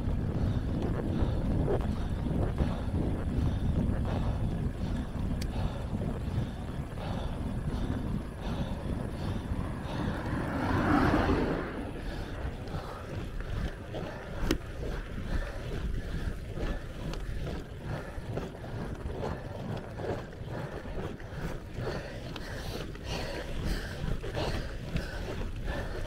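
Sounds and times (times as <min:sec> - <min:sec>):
bike rolling on asphalt: 0:00.0 - 0:26.0
wind buffeting microphone: 0:00.0 - 0:26.0.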